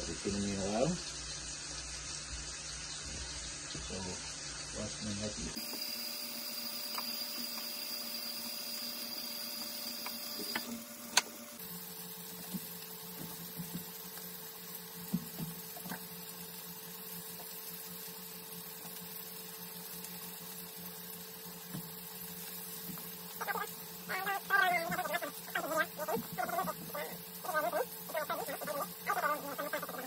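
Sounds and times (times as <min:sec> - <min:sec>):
small electric motor humming: 0:00.0 - 0:30.0.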